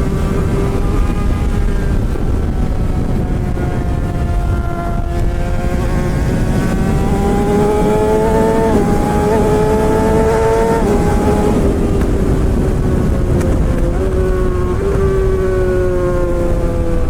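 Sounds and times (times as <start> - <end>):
motorcycle engine accelerating: 0.0 - 17.0
wind and road noise: 0.0 - 17.0.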